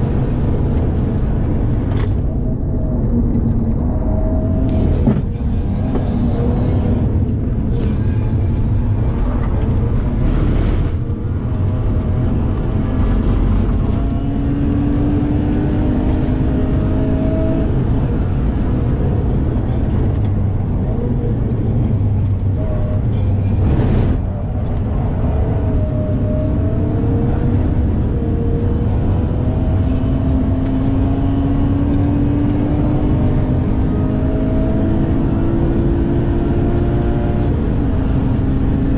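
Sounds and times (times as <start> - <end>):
car engine revving in cabin: 0.0 - 38.9.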